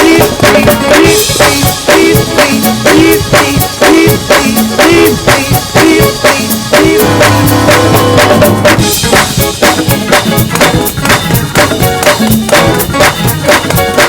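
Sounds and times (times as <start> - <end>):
band instruments playing groove: 0.0 - 14.0
drum kit fast rhythm: 0.0 - 14.0.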